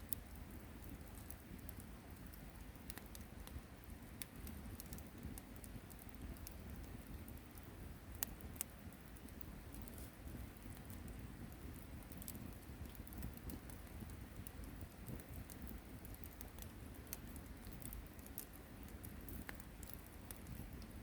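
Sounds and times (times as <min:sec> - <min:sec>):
campfire crackling and popping: 0:00.0 - 0:21.0
low steady fire rumble: 0:00.0 - 0:21.0.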